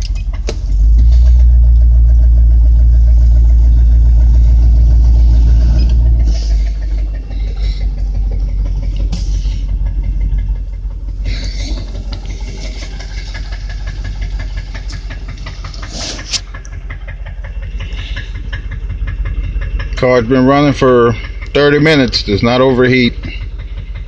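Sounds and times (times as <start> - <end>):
car engine idling with ticking knock: 0.0 - 24.0.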